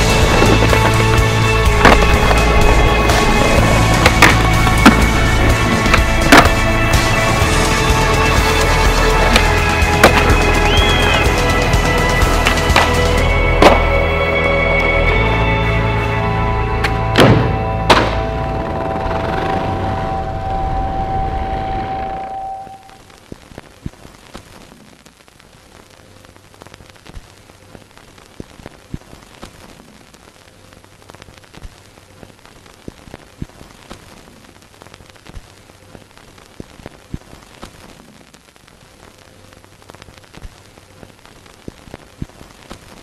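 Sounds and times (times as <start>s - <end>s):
crackling static: 0.0s - 17.0s, 17.7s - 43.0s.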